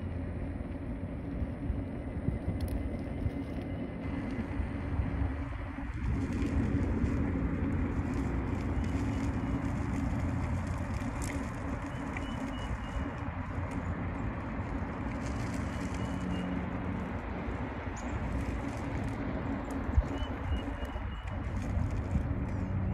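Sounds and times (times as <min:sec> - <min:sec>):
road rumble: 0:00.0 - 0:22.9
wind rushing on microphone: 0:00.0 - 0:22.9.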